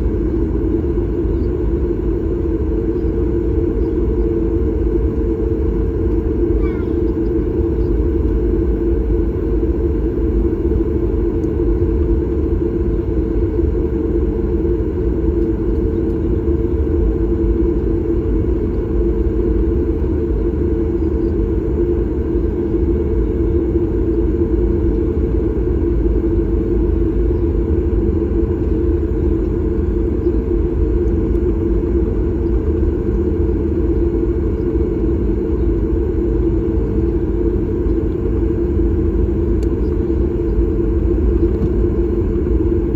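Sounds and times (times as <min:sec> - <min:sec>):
airplane cabin engine rumble: 0:00.0 - 0:42.9.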